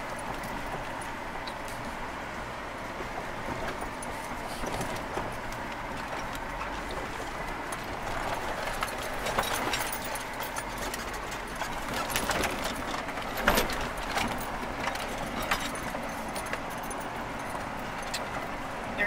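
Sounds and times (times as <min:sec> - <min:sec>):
tyres rumbling on gravel: 0:00.0 - 0:19.0
vehicle knocks and rattles: 0:00.0 - 0:19.0.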